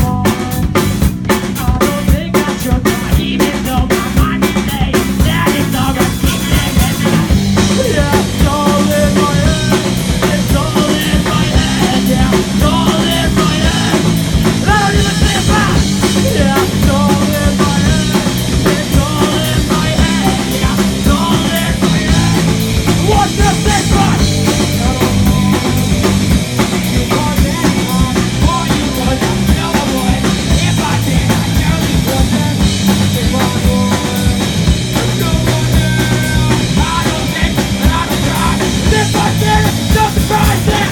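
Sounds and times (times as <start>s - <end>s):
driving drum beat: 0.0s - 40.9s
rock band playing live: 0.0s - 40.9s.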